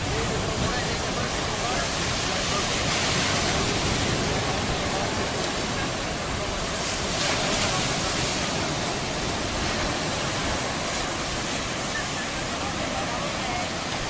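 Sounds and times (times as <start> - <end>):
waves washing onto a beach: 0.0 - 14.0.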